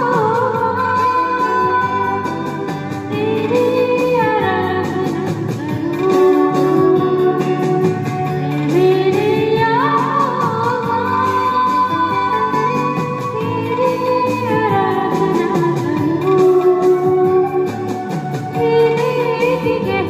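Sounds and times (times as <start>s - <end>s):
amplified singing: 0.0s - 20.0s
instrumental accompaniment: 0.0s - 20.0s.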